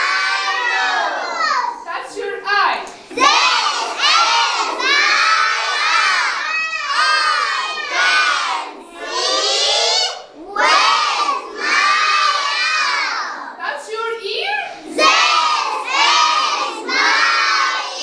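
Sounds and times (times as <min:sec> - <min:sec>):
children shouting in unison: 0:00.0 - 0:01.9, 0:03.1 - 0:13.6, 0:14.9 - 0:18.0.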